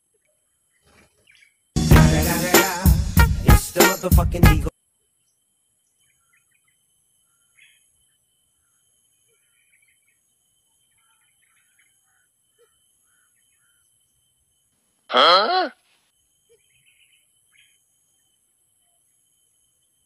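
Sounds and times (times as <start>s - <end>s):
faint small birds chirping: 0.0s - 1.8s, 4.7s - 15.1s, 15.8s - 20.0s.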